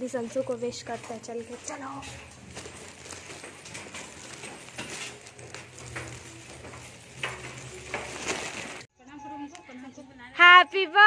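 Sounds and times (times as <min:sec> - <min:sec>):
footsteps on concrete: 0:00.0 - 0:08.9.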